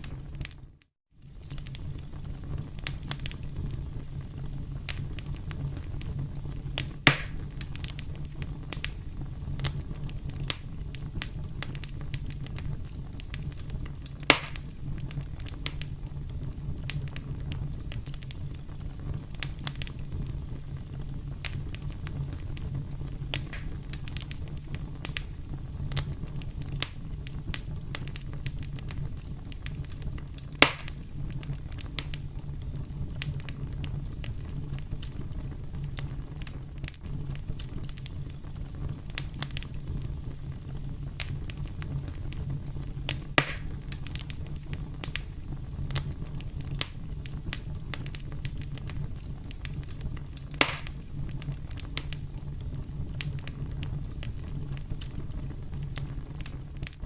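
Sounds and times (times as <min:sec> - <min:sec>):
campfire crackling: 0:00.0 - 0:57.0
fire popping: 0:00.0 - 0:57.0.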